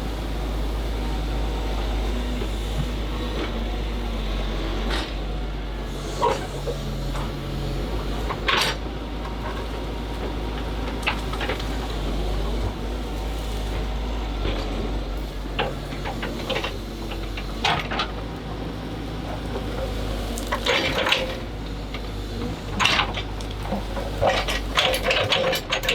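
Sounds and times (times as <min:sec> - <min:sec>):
excavator engine hum: 0:00.0 - 0:25.9.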